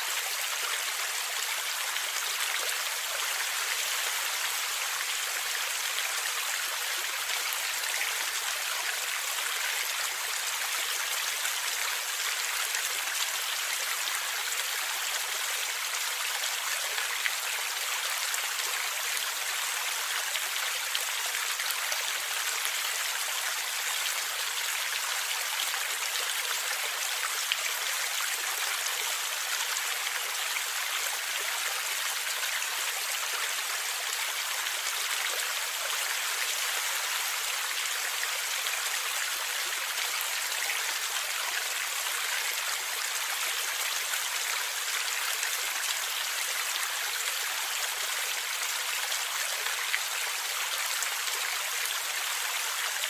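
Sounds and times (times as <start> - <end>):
stream water gurgling: 0.0 - 53.0.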